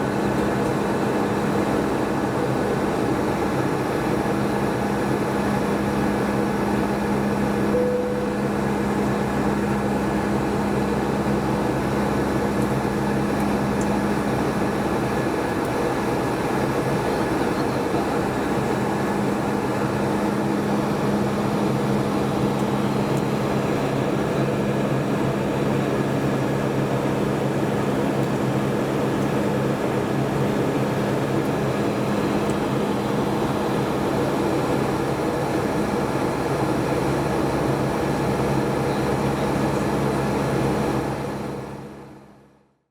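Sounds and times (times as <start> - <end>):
airliner cabin engine hum: 0.0 - 42.6.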